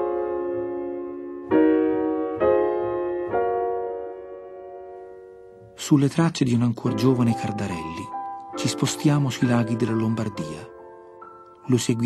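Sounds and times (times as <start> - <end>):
piano chords ringing: 0.0 - 12.0.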